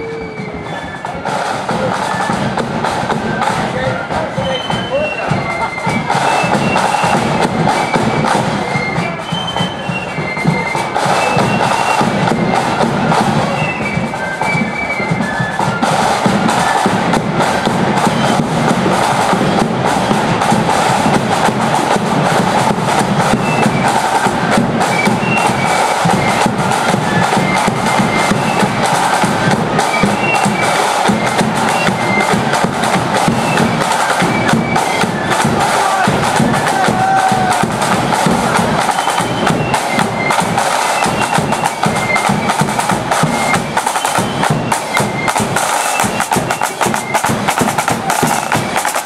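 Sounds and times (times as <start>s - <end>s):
marching band playing: 0.0s - 49.0s
side drums and bass drum beating: 0.0s - 49.0s.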